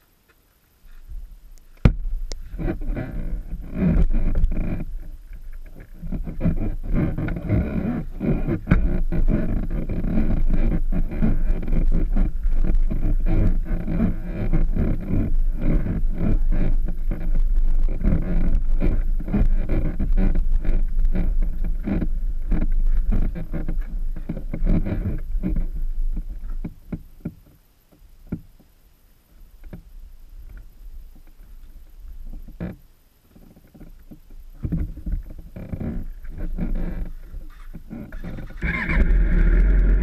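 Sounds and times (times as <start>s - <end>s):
motorcycle engine rumbling: 0.9s - 27.6s, 29.6s - 40.0s.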